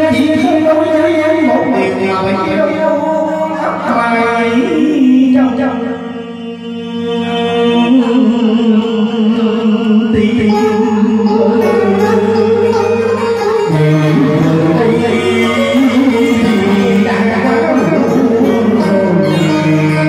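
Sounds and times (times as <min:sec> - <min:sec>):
man singing into microphone: 0:00.0 - 0:20.0.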